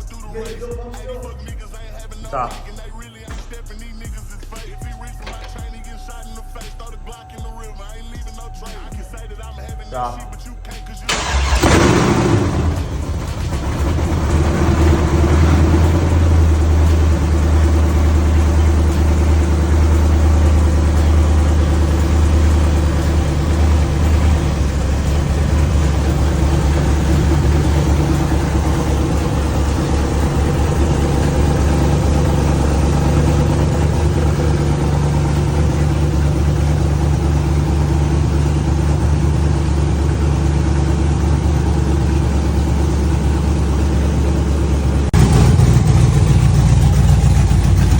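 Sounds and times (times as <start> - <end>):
pickup engine starting and idling: 0.0 - 47.9.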